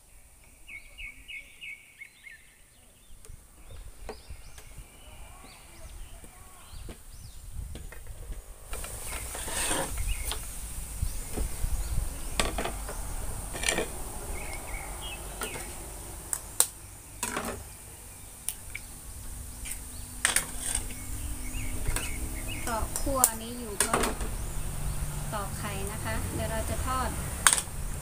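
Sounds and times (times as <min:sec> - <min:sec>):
high insect drone: 0:03.4 - 0:28.0.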